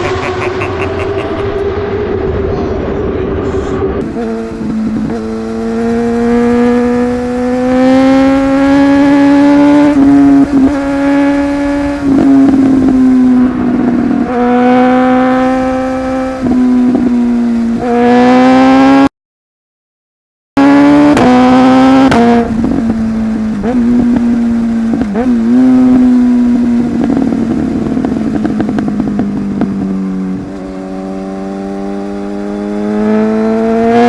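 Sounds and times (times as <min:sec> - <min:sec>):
motorcycle engine revving high: 0:00.0 - 0:19.1, 0:20.6 - 0:34.0.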